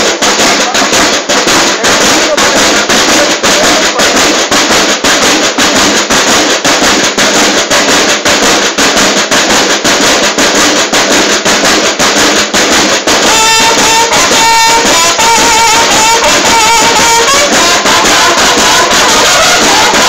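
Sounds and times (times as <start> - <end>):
snare drum cadence: 0.0 - 20.0.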